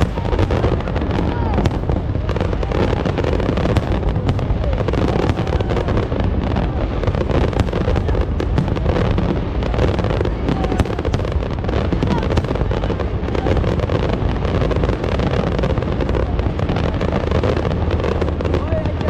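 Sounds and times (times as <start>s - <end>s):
fireworks booms rumbling: 0.0s - 19.0s
fireworks crackling: 0.0s - 19.0s.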